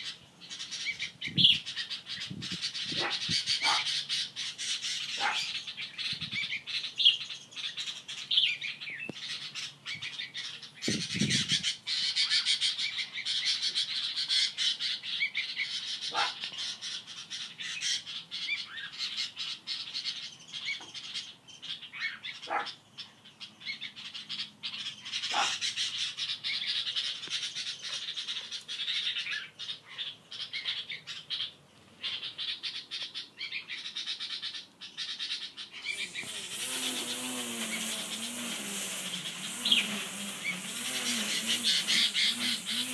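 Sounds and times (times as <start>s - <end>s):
birds chirping and squawking: 0.0s - 42.9s.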